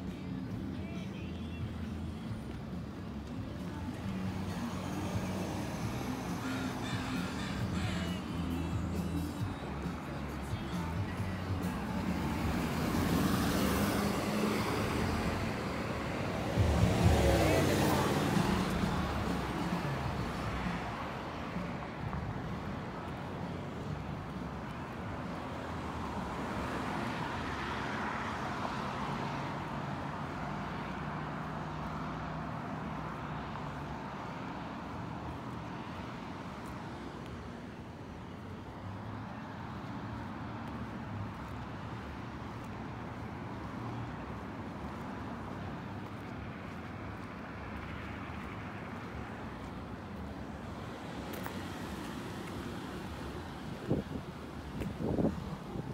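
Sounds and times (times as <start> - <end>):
cars driving past: 0.0 - 55.9.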